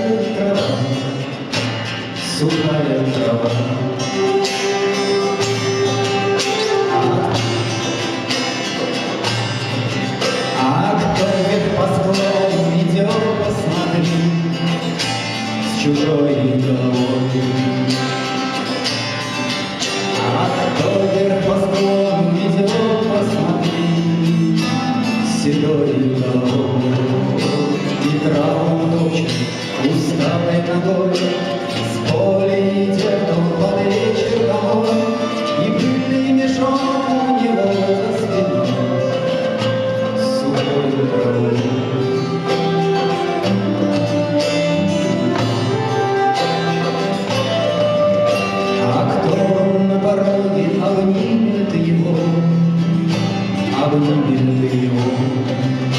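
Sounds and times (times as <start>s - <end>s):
folk-rock band playing live: 0.0s - 55.9s.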